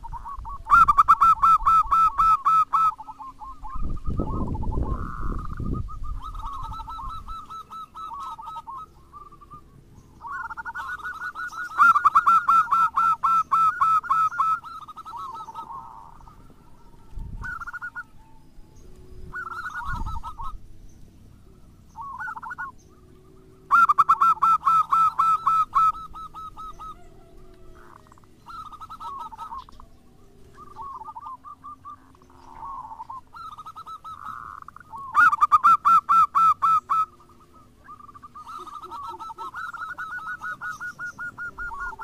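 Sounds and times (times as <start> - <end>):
dove cooing: 0.0 - 42.0.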